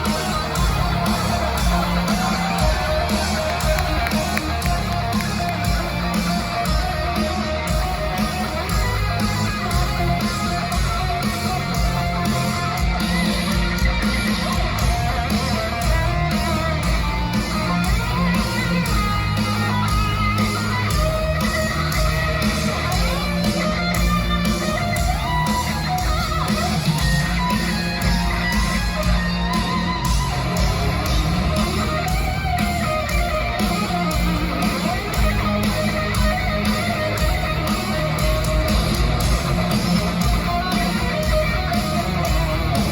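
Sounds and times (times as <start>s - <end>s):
bass guitar: 0.0s - 42.9s
distorted electric guitars: 0.0s - 42.9s
drums: 0.0s - 42.9s.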